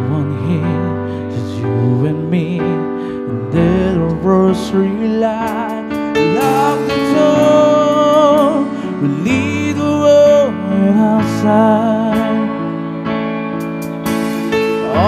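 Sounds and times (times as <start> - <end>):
man singing long notes: 0.0 - 13.0, 14.8 - 15.0
keyboard: 0.0 - 15.0.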